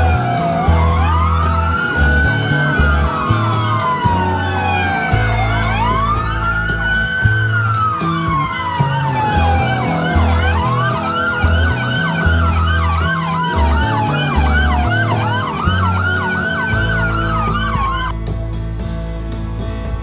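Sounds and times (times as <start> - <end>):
siren wailing: 0.0 - 18.1
siren yelping: 0.0 - 18.1.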